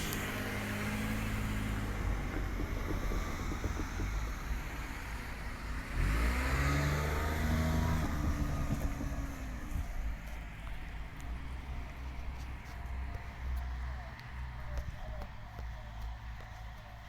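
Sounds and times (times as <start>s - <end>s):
train engine: 0.0s - 17.0s.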